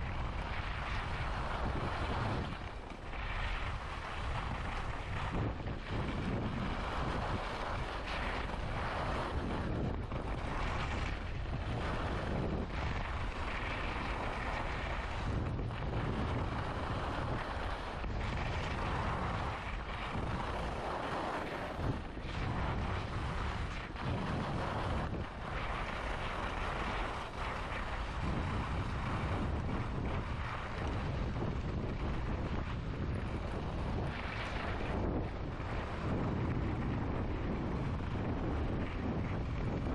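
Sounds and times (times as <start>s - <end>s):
skis scraping on snow: 0.0s - 39.9s
wind rushing over microphone: 0.0s - 39.9s.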